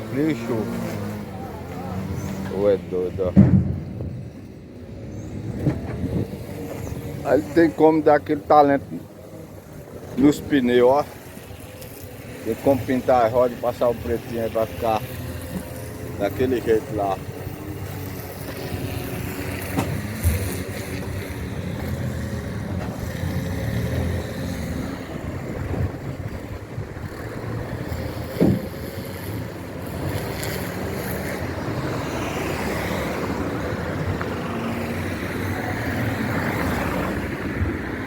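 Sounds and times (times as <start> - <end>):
road and wind noise: 0.0 - 38.0.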